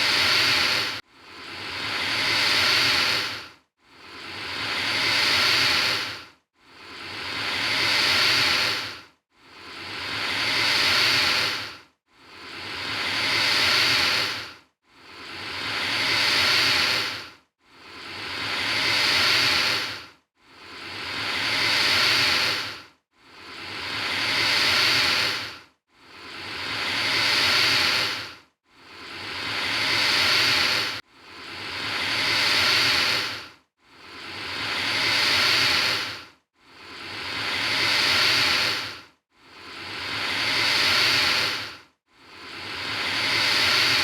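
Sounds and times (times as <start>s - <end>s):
alligator hissing: 0.0s - 3.4s, 4.1s - 6.2s, 6.8s - 9.0s, 9.7s - 14.5s, 15.1s - 17.2s, 17.9s - 20.0s, 20.7s - 22.8s, 23.4s - 25.5s, 26.2s - 28.3s, 28.9s - 33.4s, 34.1s - 39.0s, 39.7s - 41.7s, 42.4s - 44.0s.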